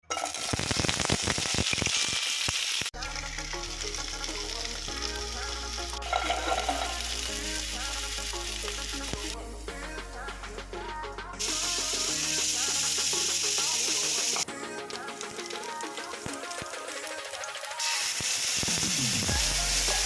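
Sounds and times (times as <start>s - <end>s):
food sizzling in oil: 0.1s - 9.4s, 11.4s - 14.4s, 15.0s - 20.0s
background music: 3.0s - 20.0s.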